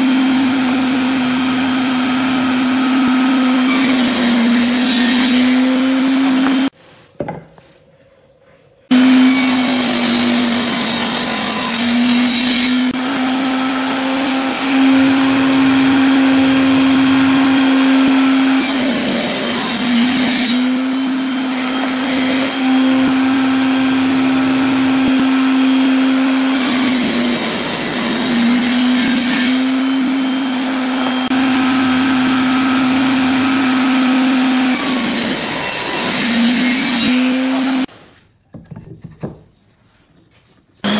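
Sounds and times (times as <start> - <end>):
table saw humming: 0.0 - 6.7, 8.9 - 37.9
saw cutting wood rasp: 1.1 - 6.8, 8.9 - 37.9.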